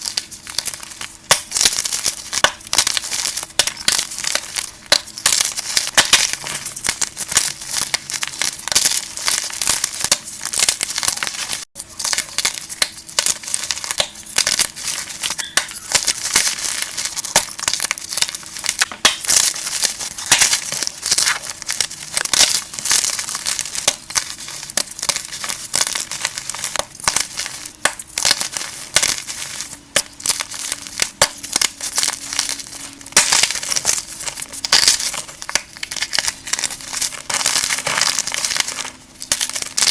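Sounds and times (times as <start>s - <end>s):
chalk being crushed: 0.0s - 39.9s.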